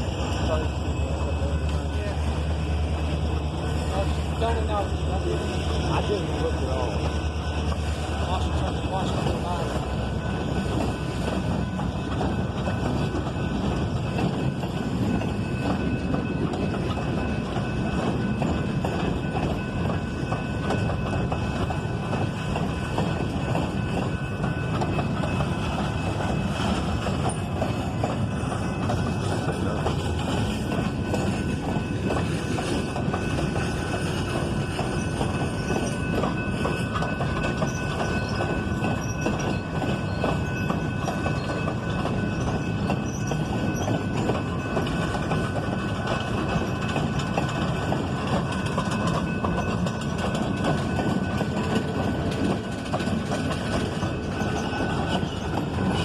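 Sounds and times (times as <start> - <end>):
train wheels clattering over track: 0.0 - 56.0.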